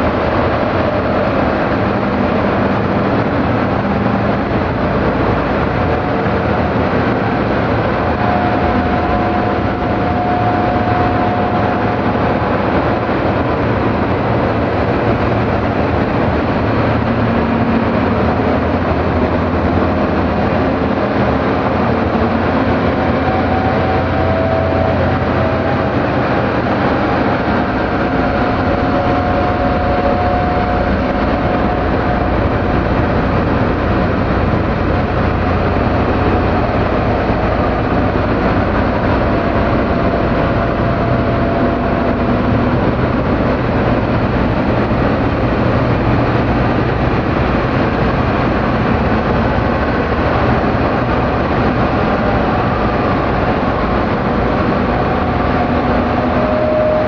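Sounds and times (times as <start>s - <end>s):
dark ambient noise music: 0.0s - 57.0s.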